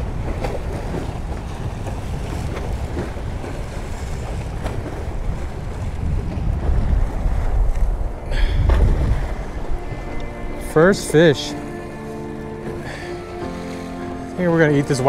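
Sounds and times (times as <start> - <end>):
waves washing against rocks: 0.0 - 15.0
wind buffeting microphone: 0.0 - 15.0.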